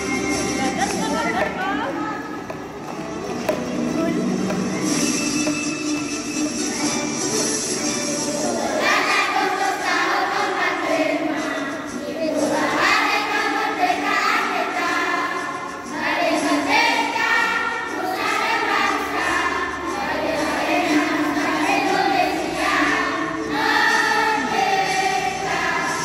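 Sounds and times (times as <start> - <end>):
children's choir singing: 2.4 - 26.0.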